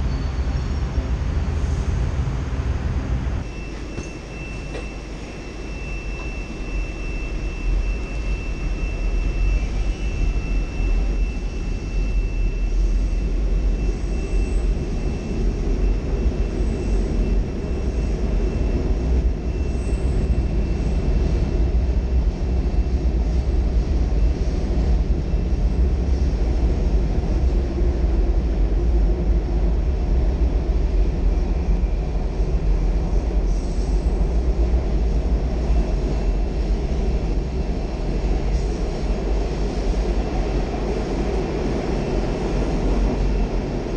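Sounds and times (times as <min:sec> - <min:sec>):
subway train wheels rumbling: 0:00.0 - 0:43.9.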